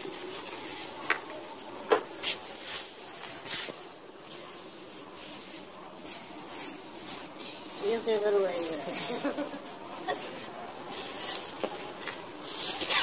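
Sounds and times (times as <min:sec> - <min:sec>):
dry straw rustling: 0:00.0 - 0:13.0.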